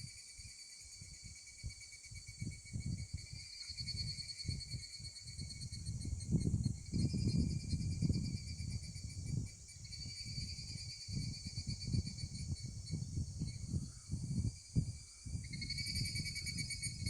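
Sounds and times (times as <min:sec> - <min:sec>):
insect chorus buzzing: 0:00.0 - 0:17.0
low rumble on microphone: 0:02.3 - 0:17.0.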